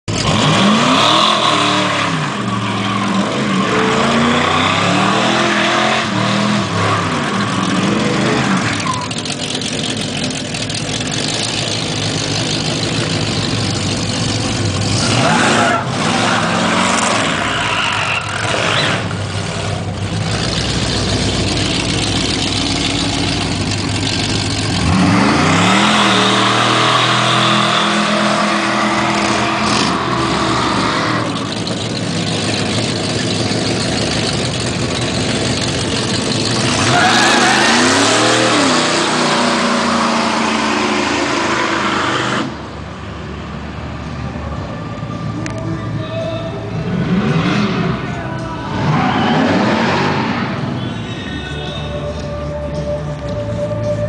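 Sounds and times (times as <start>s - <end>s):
car engine revving: 0.1s - 42.9s, 46.6s - 51.2s.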